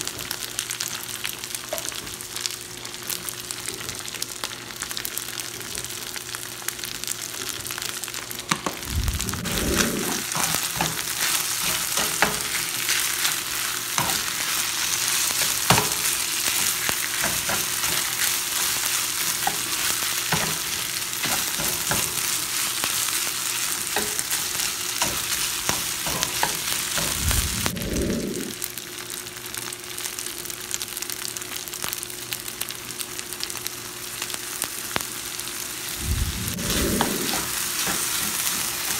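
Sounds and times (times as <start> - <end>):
rice sizzling in a pan: 0.0 - 38.9.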